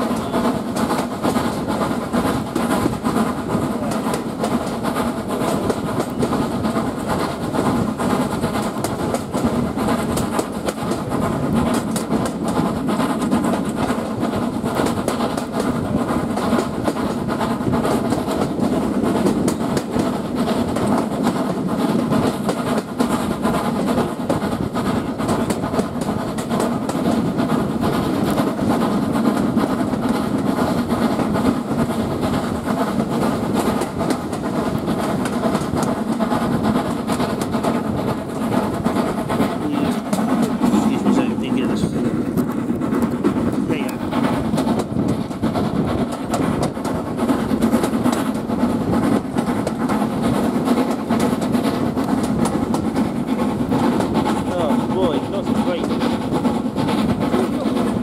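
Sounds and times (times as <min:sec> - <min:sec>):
steam locomotive working: 0:00.0 - 0:58.0
train wheels clattering on track: 0:00.0 - 0:58.0.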